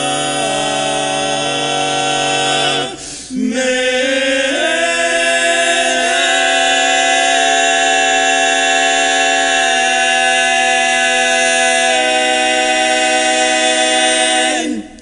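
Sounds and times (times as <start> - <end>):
men singing in close harmony: 0.0 - 15.0.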